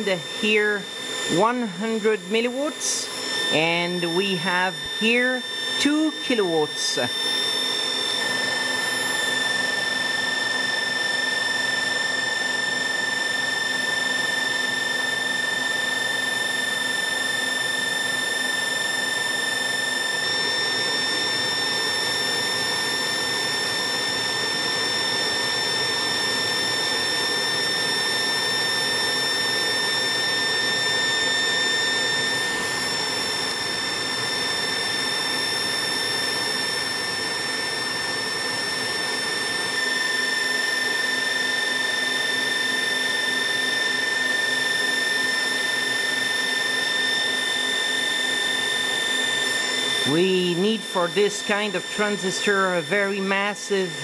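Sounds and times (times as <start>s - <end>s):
high-pitched whine: 0.0s - 54.0s.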